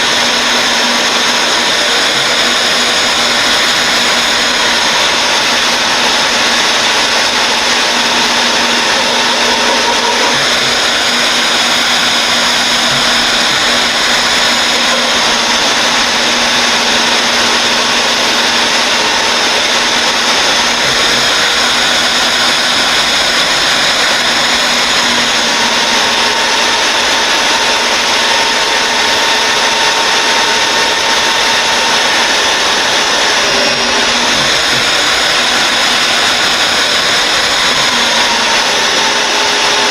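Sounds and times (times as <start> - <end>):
electric drill boring through steel: 0.0 - 39.9.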